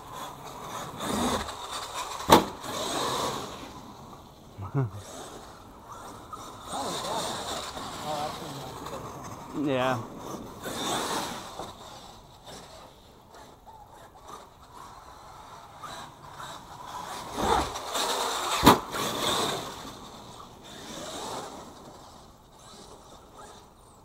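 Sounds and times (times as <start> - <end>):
rc truck motor and tyre noise: 0.0 - 24.0.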